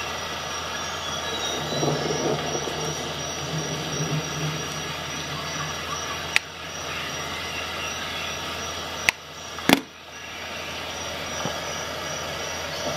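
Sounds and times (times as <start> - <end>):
background hiss: 0.0 - 12.9.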